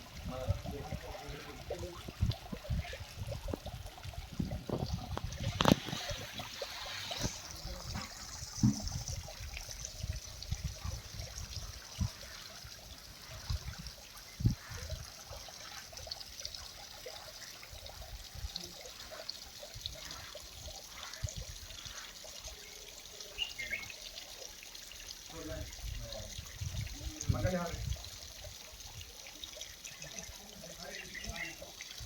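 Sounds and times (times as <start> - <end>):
water trickling: 0.0 - 32.0.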